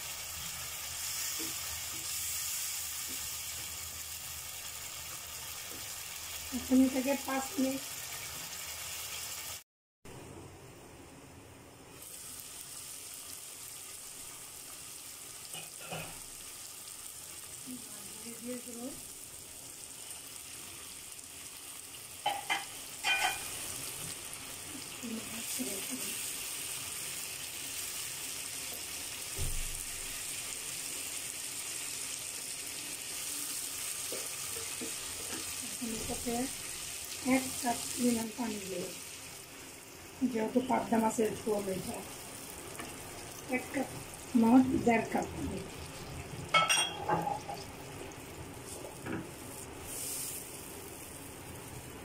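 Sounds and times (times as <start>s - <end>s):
potatoes sizzling in oil: 0.0s - 9.6s, 11.9s - 52.0s.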